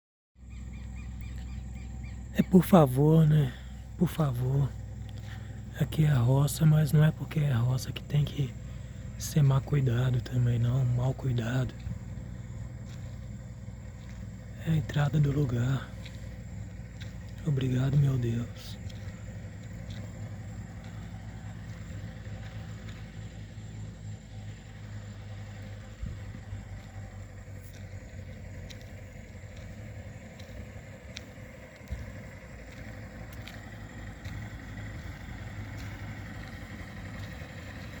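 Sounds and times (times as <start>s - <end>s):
engine idling: 0.4s - 38.0s.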